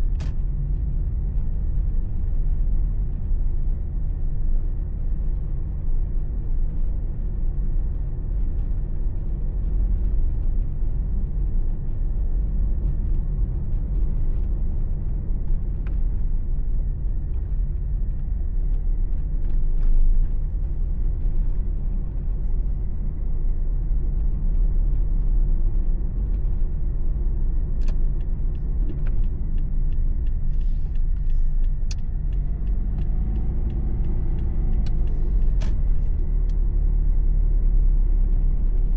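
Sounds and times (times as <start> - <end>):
car engine and tyre road noise: 0.0 - 38.9.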